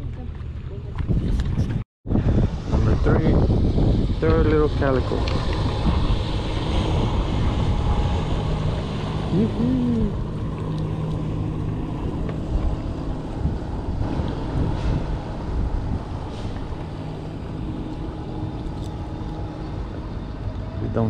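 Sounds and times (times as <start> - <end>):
wind buffeting microphone: 0.0 - 21.0
outboard motor droning: 2.5 - 21.0.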